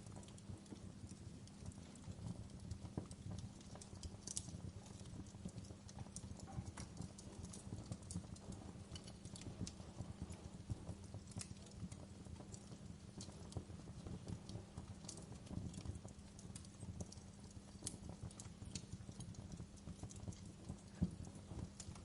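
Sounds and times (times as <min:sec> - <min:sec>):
campfire flames rumbling: 0:00.0 - 0:22.0
wood crackling and popping: 0:00.0 - 0:22.0.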